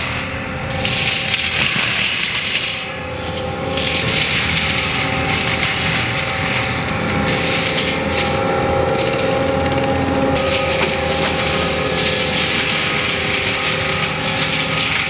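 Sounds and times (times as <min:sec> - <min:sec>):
engine running with whine: 0:00.0 - 0:15.0
forestry mulcher grinding brush: 0:00.0 - 0:15.0.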